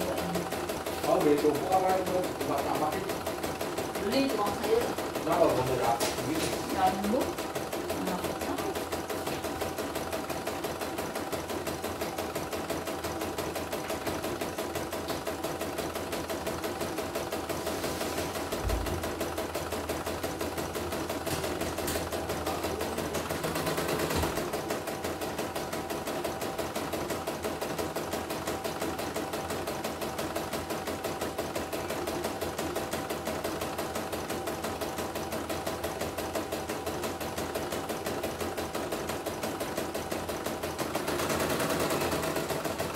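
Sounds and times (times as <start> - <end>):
embroidery machine stitching: 0.0 - 42.9.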